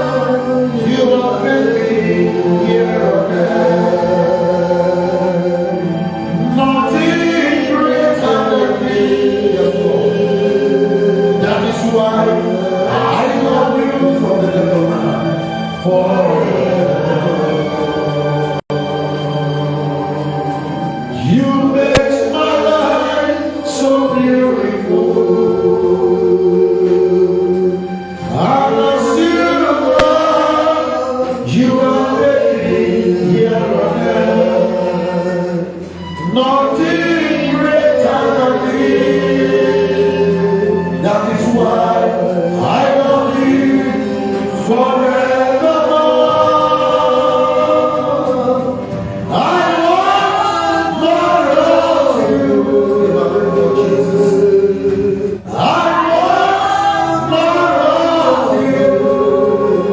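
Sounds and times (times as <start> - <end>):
gospel choir singing: 0.0 - 59.9
man singing lead: 0.0 - 59.9.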